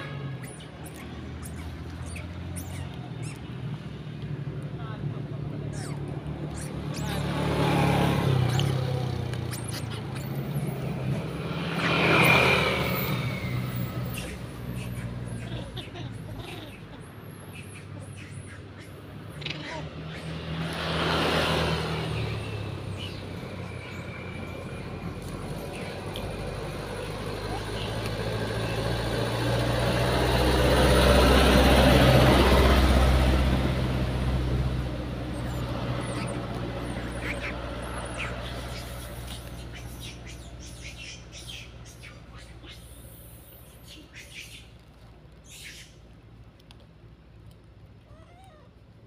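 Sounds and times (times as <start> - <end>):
vehicle passing: 0.0 - 46.0
vehicle engine running: 0.4 - 43.2.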